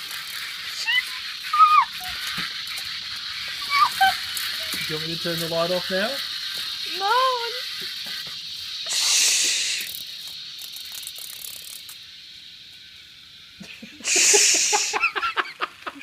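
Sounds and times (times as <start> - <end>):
aerosol spray hissing: 0.0 - 16.0
cicadas buzzing: 0.0 - 16.0.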